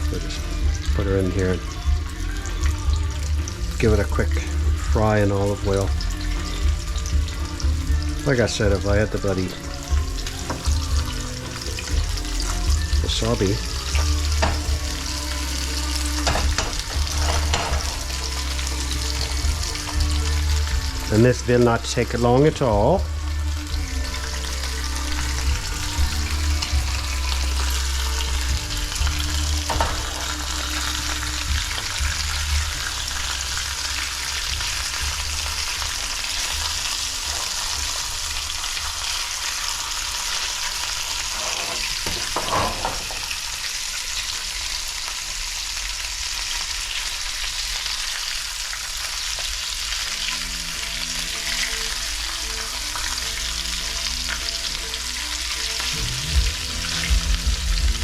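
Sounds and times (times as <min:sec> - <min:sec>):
fish fillets sizzling in oil: 0:00.0 - 0:58.0.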